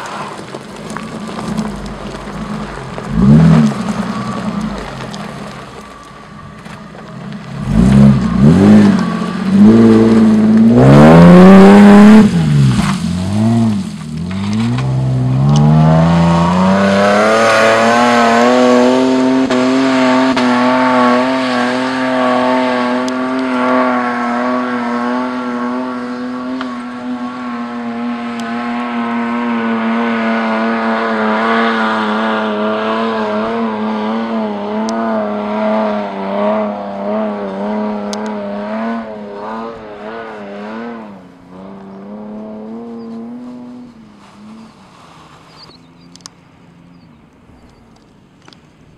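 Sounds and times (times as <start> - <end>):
engine and exhaust revving: 0.0 - 48.6.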